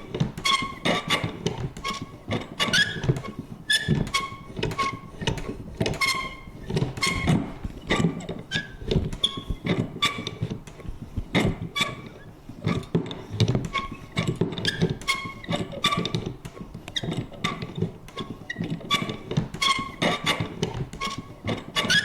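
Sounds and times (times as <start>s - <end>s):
lever squeaking: 0.0s - 10.4s, 13.6s - 16.3s, 17.0s - 22.0s.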